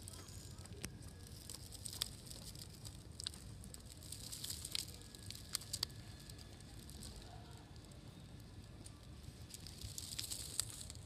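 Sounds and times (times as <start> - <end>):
crackling of dry leaves: 0.0 - 11.0
low steady rumble: 0.0 - 11.0.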